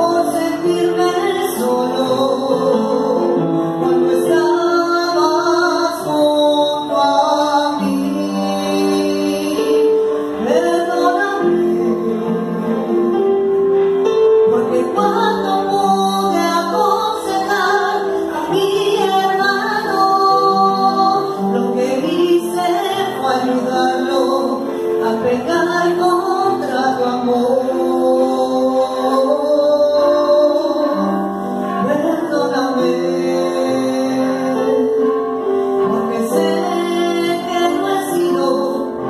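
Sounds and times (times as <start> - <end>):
woman singing through microphone: 0.0 - 39.0.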